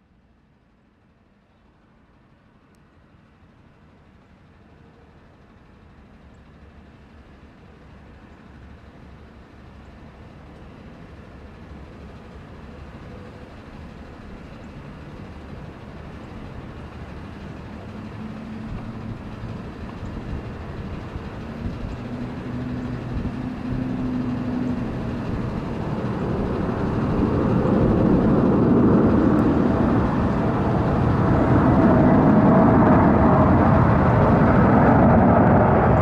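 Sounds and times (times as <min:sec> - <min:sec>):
jet engines on landing approach: 0:03.0 - 0:36.0.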